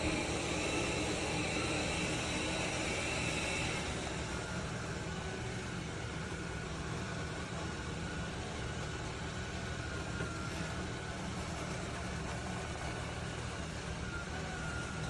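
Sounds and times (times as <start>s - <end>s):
high-pitched whine: 0.0s - 15.0s
robot vacuum whirring: 0.0s - 15.0s.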